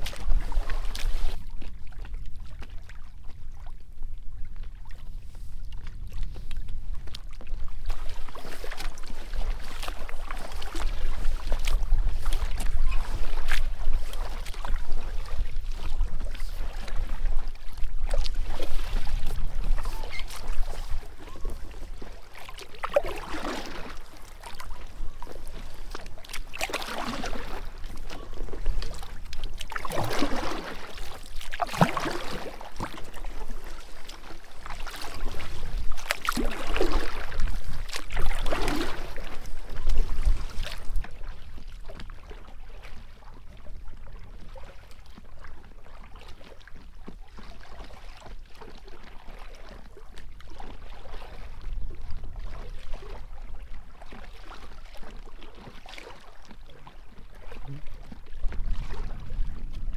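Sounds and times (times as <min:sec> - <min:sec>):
paddle splashing in water: 0:00.0 - 0:59.9
water lapping around hull: 0:00.0 - 0:59.9.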